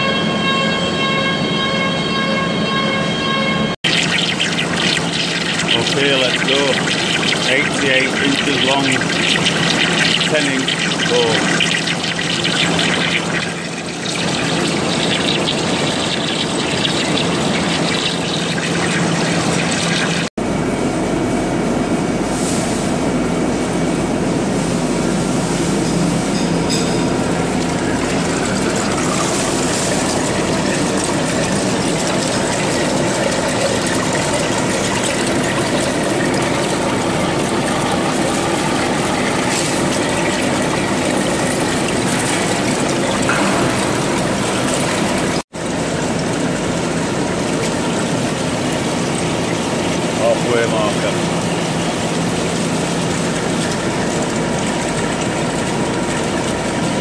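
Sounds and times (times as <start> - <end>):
coolant water pouring: 3.8 - 20.4, 24.3 - 57.0.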